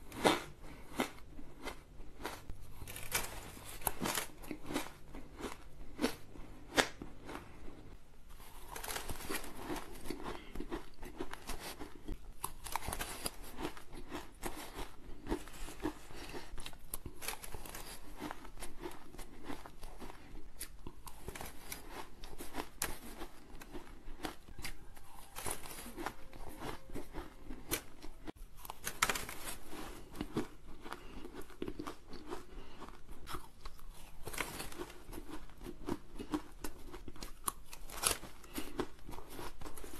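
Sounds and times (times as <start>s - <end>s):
crunching and chewing shaved ice: 0.0s - 39.9s.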